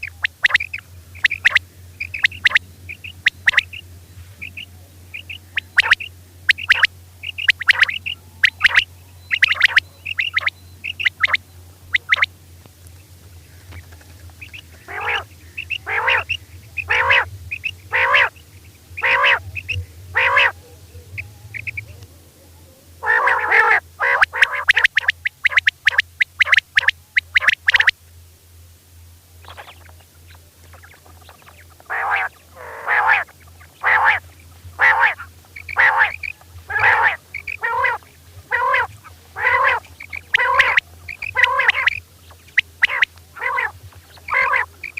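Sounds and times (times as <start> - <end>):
quail hoarse calls: 0.0 - 12.4, 13.4 - 22.1, 23.0 - 28.0, 29.4 - 44.9
steady low hum: 0.0 - 44.9.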